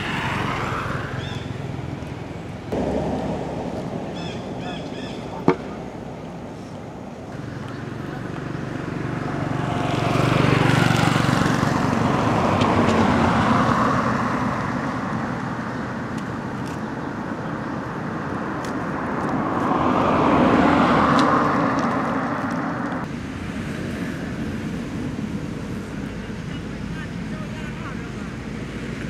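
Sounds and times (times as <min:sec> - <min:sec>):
vehicles passing on road: 0:00.0 - 0:29.0.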